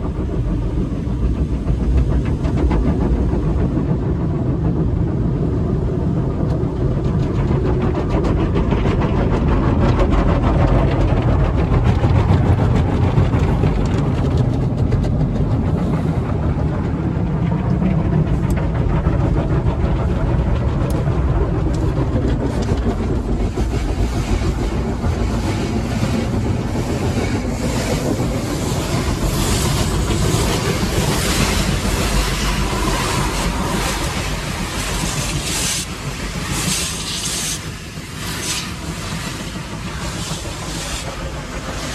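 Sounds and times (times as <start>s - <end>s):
heavy machinery rumble: 0.0s - 41.9s.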